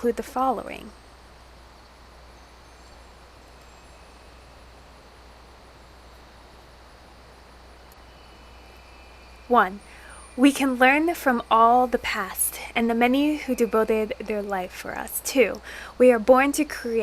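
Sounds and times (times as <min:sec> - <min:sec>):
faint hiss: 0:00.0 - 0:17.0
low hum: 0:00.0 - 0:17.0.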